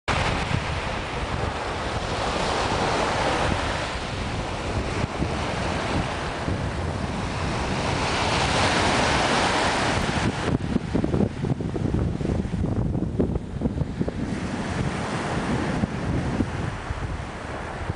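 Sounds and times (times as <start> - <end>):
waves breaking on beach: 0.1 - 17.9
wind buffeting microphone: 0.1 - 17.9.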